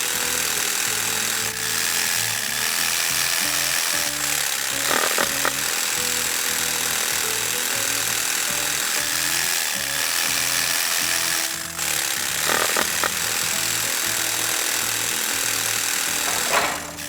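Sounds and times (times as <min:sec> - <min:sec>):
harsh machine hiss: 0:00.0 - 0:17.0.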